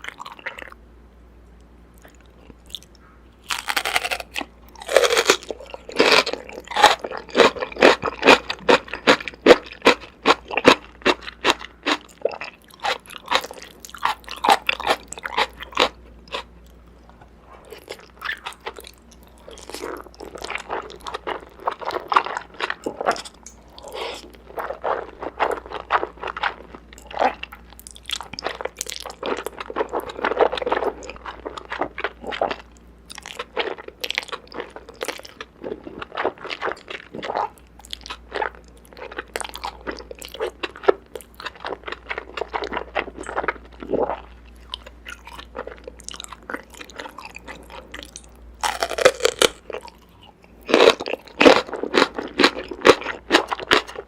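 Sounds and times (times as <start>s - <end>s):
mouth crunching and chewing food: 0.0s - 0.8s, 1.6s - 54.0s.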